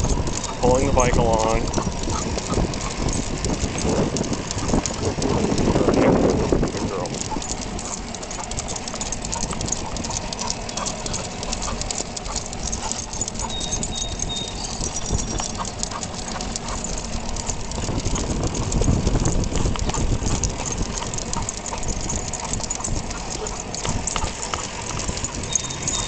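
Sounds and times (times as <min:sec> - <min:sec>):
dog paws pattering on pavement: 0:00.0 - 0:26.0
road and wind rumble: 0:00.0 - 0:26.0.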